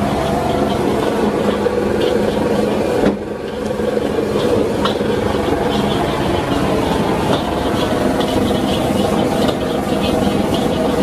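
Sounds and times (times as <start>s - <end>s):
gas burner roaring: 0.0s - 11.0s
metal ladle scraping in a wok: 0.0s - 11.0s
rice frying: 0.0s - 11.0s.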